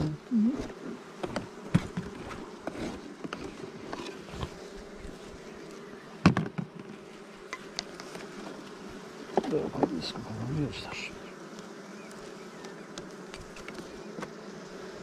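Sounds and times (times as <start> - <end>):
bees buzzing: 0.0 - 15.0
hive tool scraping wood: 0.0 - 15.0.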